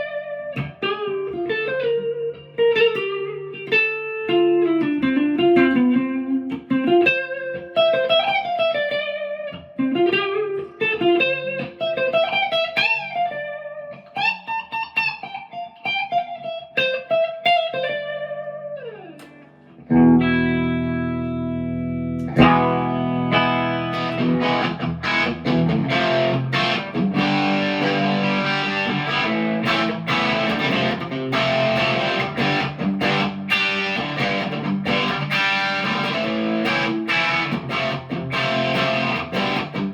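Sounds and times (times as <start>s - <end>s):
strummed guitar chords: 0.0s - 16.5s, 17.1s - 39.9s
electric guitar lead line: 0.0s - 39.9s.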